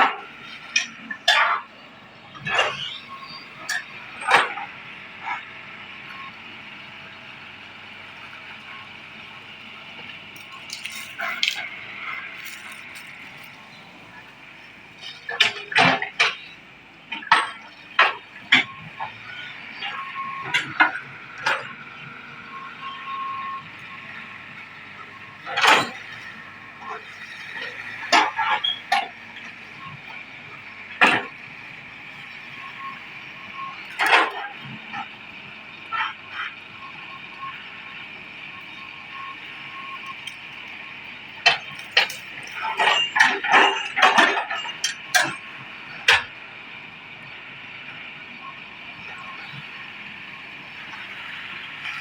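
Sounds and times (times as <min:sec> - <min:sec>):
excavator engine running: 0:00.0 - 0:52.0.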